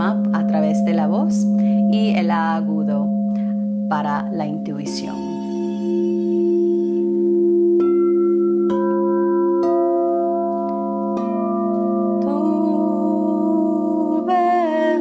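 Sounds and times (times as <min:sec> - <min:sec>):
crystal singing bowls ringing: 0:00.0 - 0:15.0.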